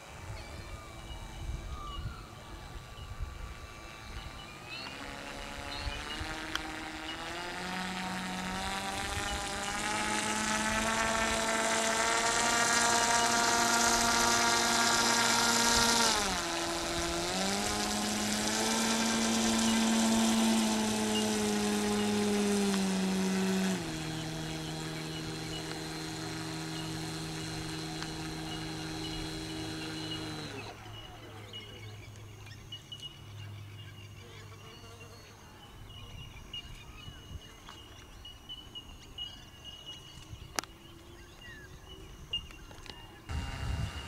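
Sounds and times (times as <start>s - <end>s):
model plane motor whining: 0.0s - 32.3s, 40.1s - 44.0s.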